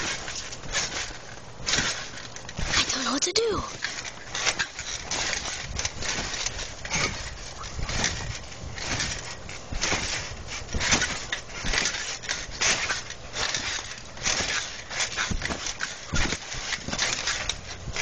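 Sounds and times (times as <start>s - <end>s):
trampoline thumping and creaking: 0.0s - 18.0s.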